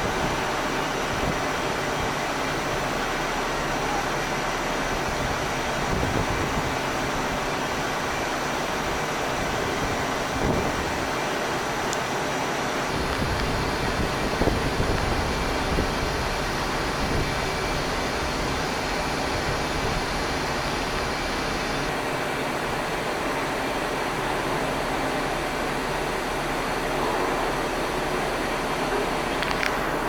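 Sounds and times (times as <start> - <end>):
jet engine rush: 5.1 - 30.0.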